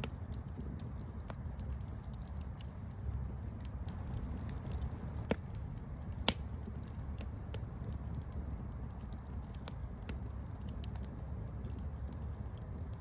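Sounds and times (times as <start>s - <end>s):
campfire crackling: 0.0s - 13.0s
loud fire pops: 0.0s - 13.0s.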